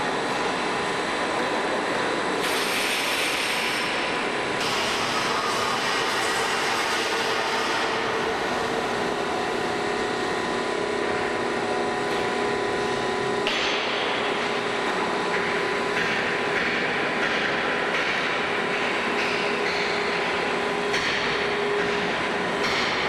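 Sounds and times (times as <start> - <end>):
machine whine: 0.0 - 23.0
plate rolling machine hum: 0.0 - 23.0.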